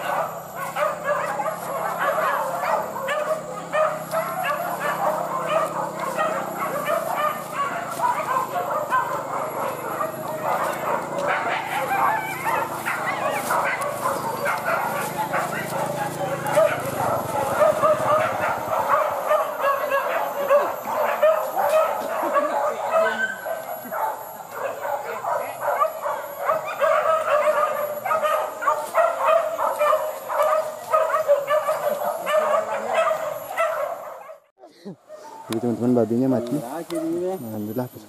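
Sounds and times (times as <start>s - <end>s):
dogs barking and yelping: 0.0s - 37.8s.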